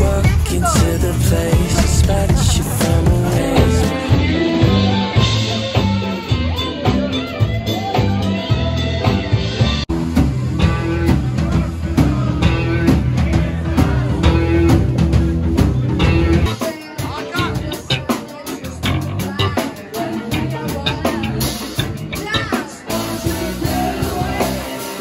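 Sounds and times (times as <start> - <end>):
background music with beat and bass: 0.0 - 25.0.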